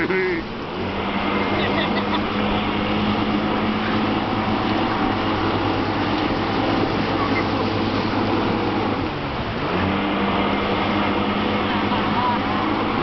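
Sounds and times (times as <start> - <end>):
outboard motor running: 0.0 - 13.0
water rushing past boat hull: 0.0 - 13.0.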